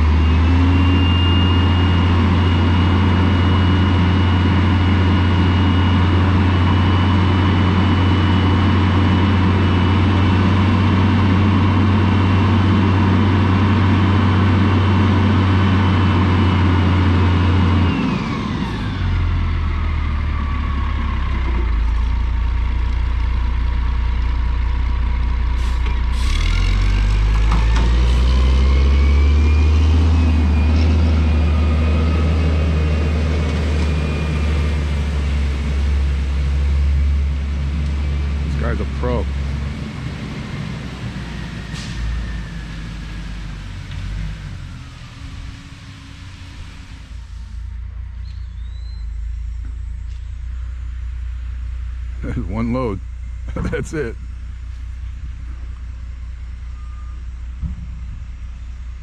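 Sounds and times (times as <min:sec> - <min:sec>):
diesel truck engine revving: 0:00.0 - 0:52.8.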